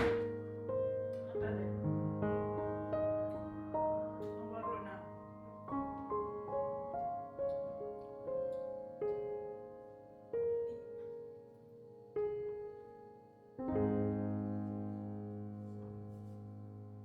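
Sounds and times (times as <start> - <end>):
slow solo piano music: 0.0 - 17.0.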